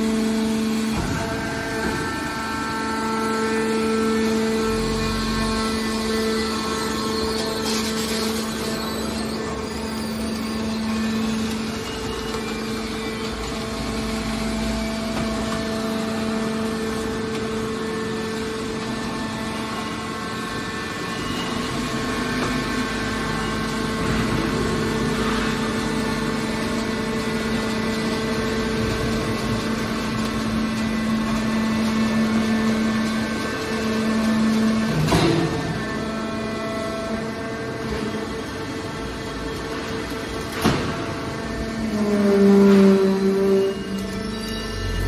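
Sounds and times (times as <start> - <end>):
hydraulic power unit humming: 0.0 - 45.0.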